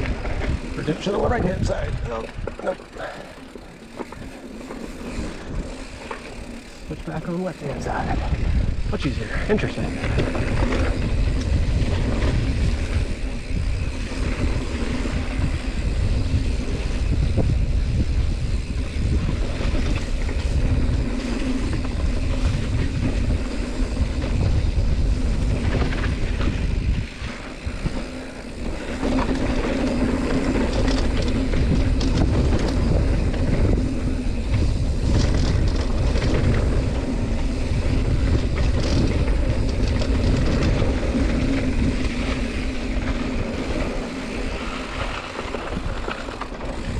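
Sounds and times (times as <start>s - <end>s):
wind rushing on microphone: 0.0s - 3.2s, 6.8s - 46.9s
bike tyre rumble on dirt: 0.0s - 46.9s.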